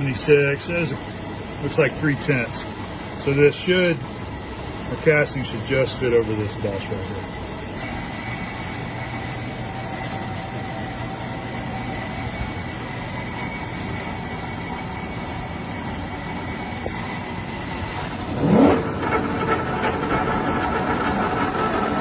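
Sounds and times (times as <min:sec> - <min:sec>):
lathe motor whine: 0:00.0 - 0:22.0
shop machinery hum: 0:00.0 - 0:22.0.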